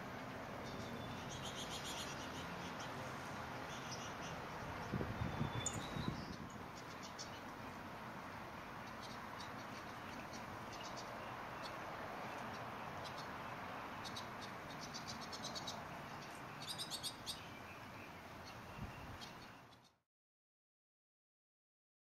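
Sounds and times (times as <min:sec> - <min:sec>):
birds chirping: 0:00.5 - 0:20.0.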